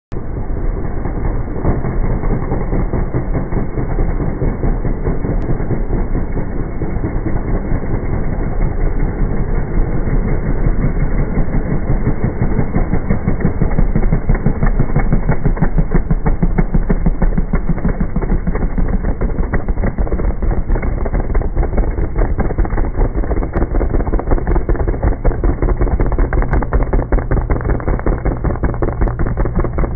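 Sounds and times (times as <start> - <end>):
slowed motorcycle engines rumbling: 0.1 - 29.9.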